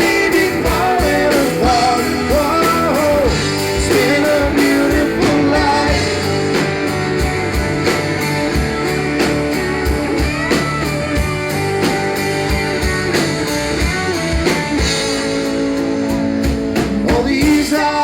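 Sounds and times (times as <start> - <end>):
guitars playing: 0.0 - 18.0
steady drum beat: 0.0 - 18.0.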